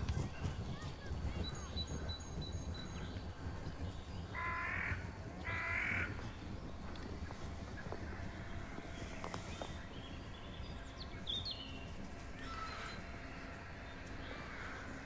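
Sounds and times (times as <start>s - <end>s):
steady low rumble: 0.0s - 15.0s
bird calling: 0.1s - 15.0s.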